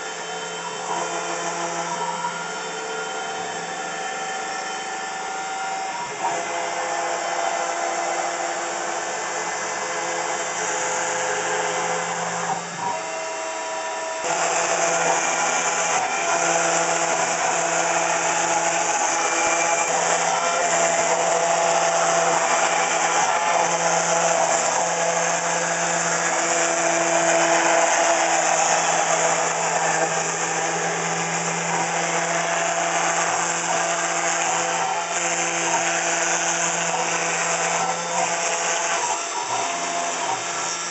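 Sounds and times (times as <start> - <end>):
bit cutting cardboard: 0.0 - 40.9
mill spindle motor running: 0.0 - 40.9.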